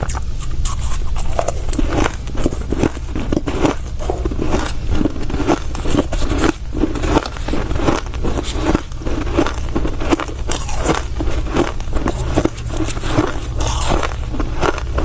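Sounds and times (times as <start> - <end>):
crushed ice being chewed: 0.0 - 15.0.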